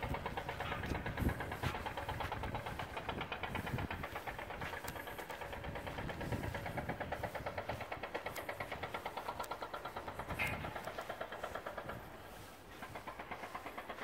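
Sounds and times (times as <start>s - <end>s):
engine running with rapid pulse: 0.0s - 14.0s.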